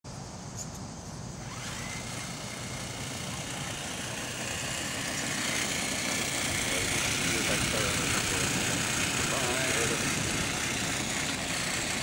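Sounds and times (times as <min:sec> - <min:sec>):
constant hiss: 0:00.1 - 0:12.0
robot drive motor whining: 0:01.3 - 0:12.0.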